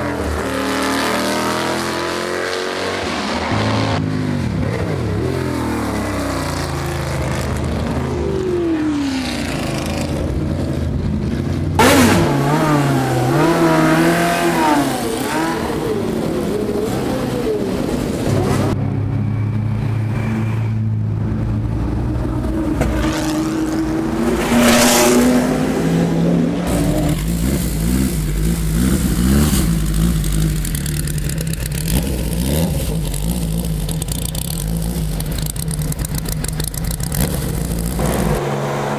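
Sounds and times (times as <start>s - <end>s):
racing car engines passing: 0.0s - 38.9s.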